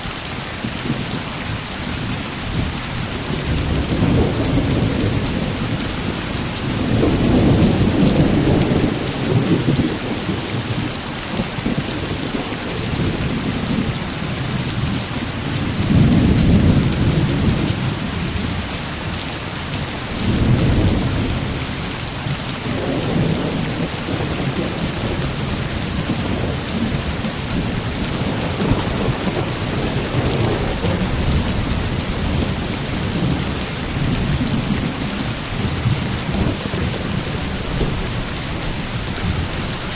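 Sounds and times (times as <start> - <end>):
heavy rain falling: 0.0 - 39.9
low thunder rumbling: 1.8 - 19.2, 22.6 - 39.9.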